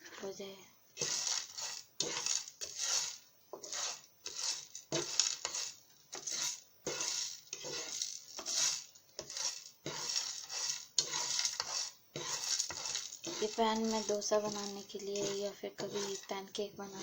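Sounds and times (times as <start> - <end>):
spices roasting in a pan: 0.0 - 17.0
utensil scraping a pan: 1.0 - 17.0.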